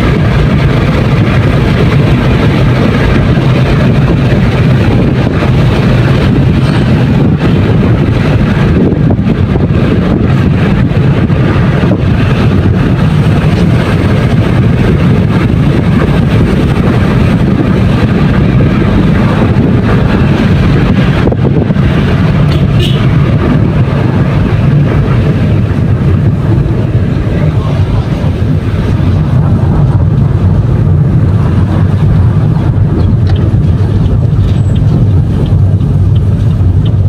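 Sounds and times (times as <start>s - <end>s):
vehicle engine rumbling: 0.0s - 37.0s
wind buffeting microphone: 0.0s - 37.0s.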